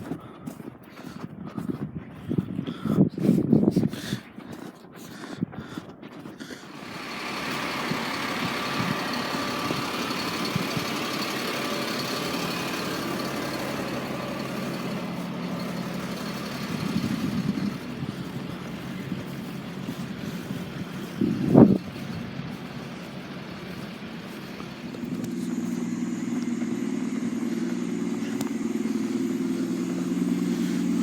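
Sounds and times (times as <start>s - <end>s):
vehicle engine running: 4.3s - 31.0s.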